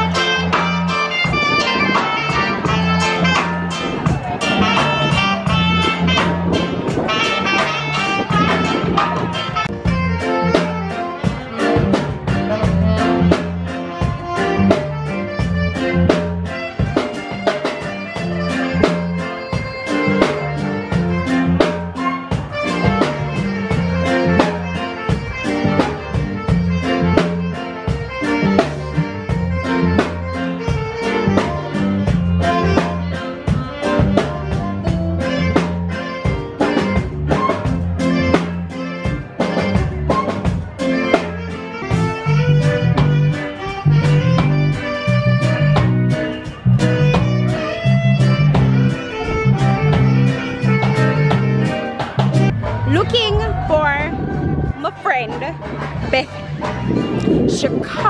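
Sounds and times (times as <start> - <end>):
drum kit beat: 0.0 - 58.0
electric guitar: 0.0 - 58.0
saxophone: 0.0 - 58.0.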